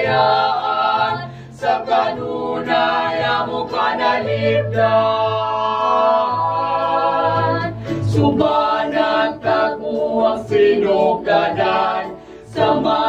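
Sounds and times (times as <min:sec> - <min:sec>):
vocal quartet singing a hymn: 0:00.0 - 0:13.0.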